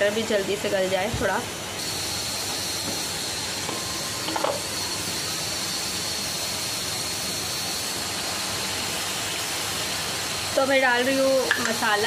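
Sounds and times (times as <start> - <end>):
masala sizzling in a pan: 0.0 - 12.0.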